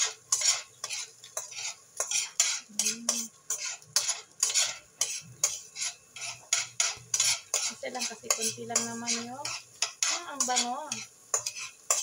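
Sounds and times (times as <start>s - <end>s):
metal utensil scraping a pan: 0.0s - 12.0s.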